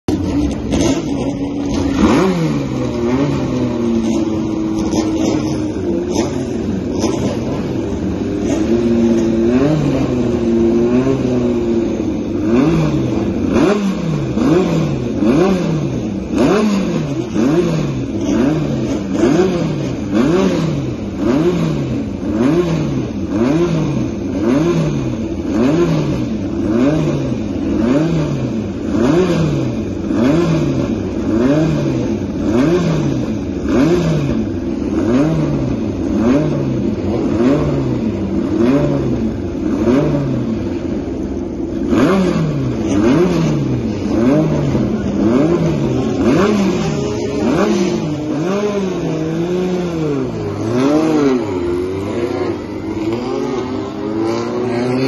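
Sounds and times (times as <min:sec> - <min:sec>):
racing car engine revving: 0:00.0 - 0:55.0.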